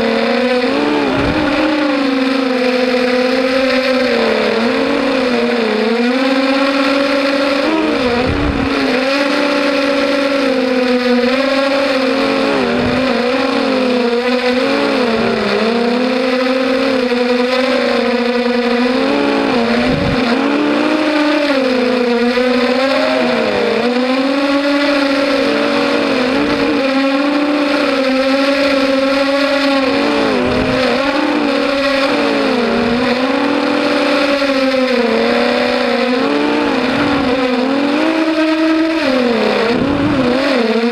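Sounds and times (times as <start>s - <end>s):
quadcopter buzzing whine: 0.0s - 40.9s.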